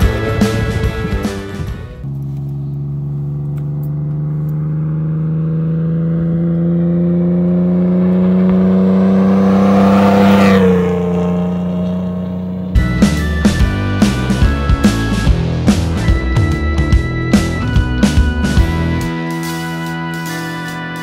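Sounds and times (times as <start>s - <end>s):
truck engine passing: 0.0s - 21.0s.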